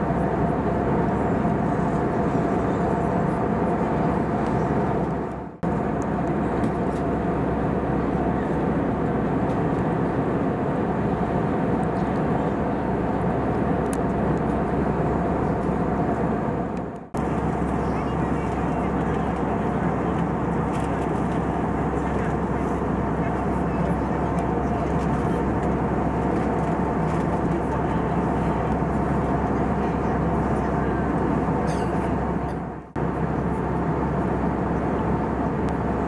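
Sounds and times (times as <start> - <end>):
jet engine drone: 0.0 - 36.0
steady hums: 0.0 - 36.0.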